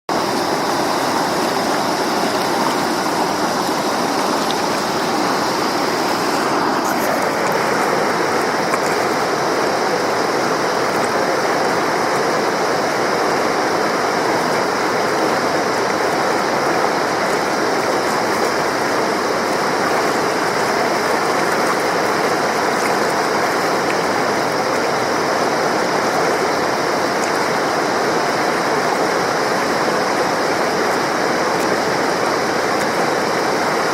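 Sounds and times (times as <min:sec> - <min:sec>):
mountain river rushing: 0:00.1 - 0:33.9.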